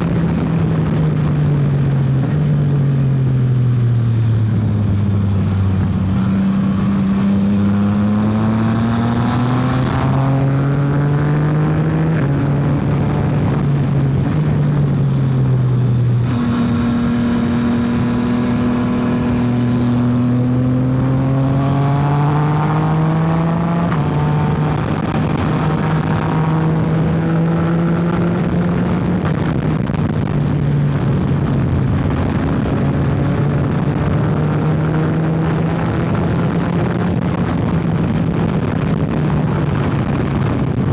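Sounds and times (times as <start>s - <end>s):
motorcycle engine accelerating: 0.0s - 40.9s
wind rushing: 5.2s - 15.1s, 16.1s - 40.9s.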